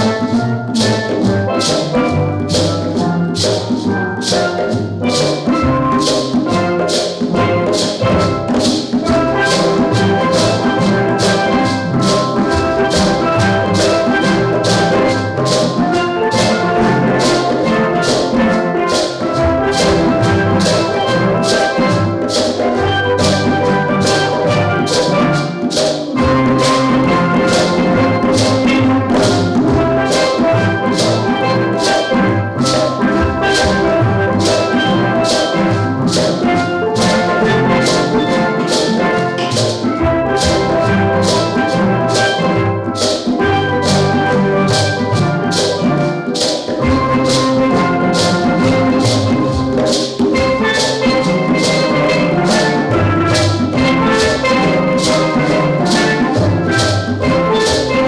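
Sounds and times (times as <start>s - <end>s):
steel drum band playing: 0.0s - 58.0s.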